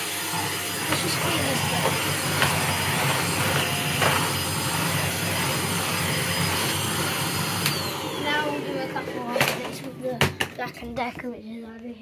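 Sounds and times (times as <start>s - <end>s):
vacuum cleaner running: 0.0s - 10.6s.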